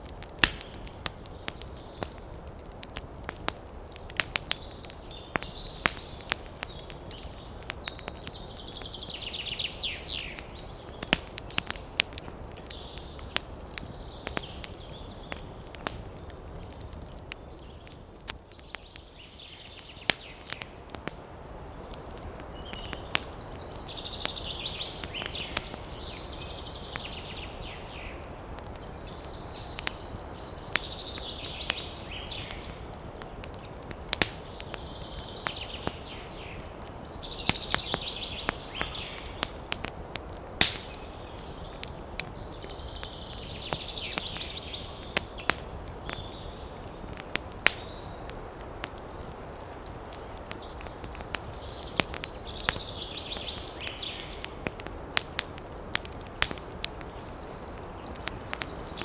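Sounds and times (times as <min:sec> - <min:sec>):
campfire crackling and popping: 0:00.0 - 0:59.0
low rumble of wind: 0:00.0 - 0:59.0.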